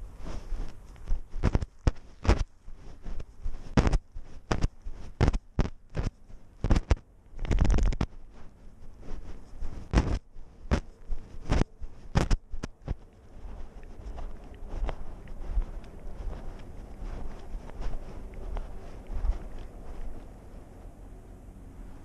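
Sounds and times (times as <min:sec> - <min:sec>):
cat footsteps on gravel: 0:00.0 - 0:21.1
rough scraping rustle: 0:00.0 - 0:22.0.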